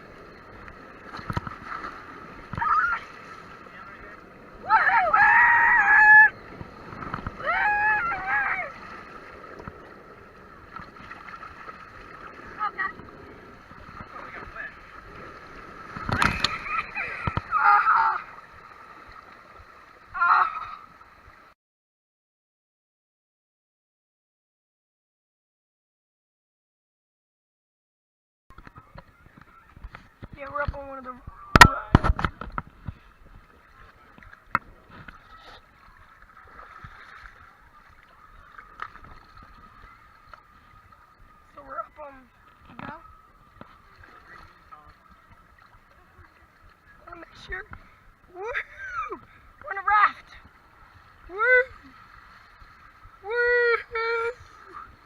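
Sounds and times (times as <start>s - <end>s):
muffled water sloshing and splashing: 0.0s - 21.6s, 28.5s - 55.0s.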